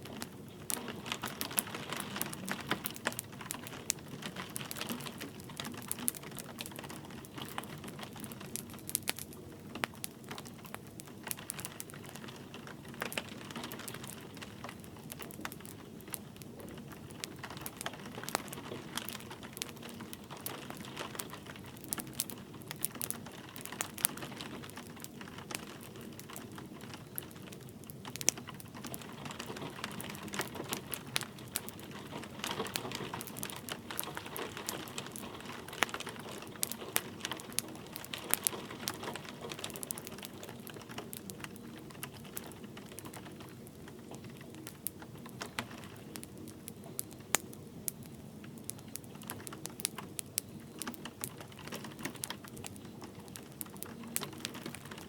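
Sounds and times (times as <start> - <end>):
light rain hiss: 0.0 - 55.0
wood fire crackling: 0.0 - 55.0.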